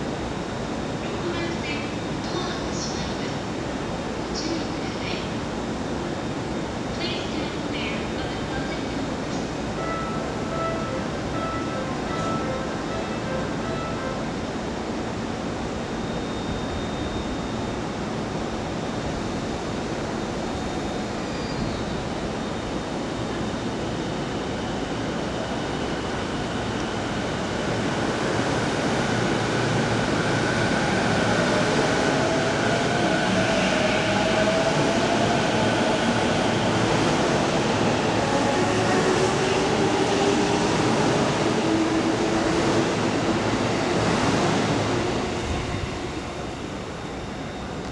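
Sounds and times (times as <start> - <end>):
rumble of train wheels: 0.0 - 47.9.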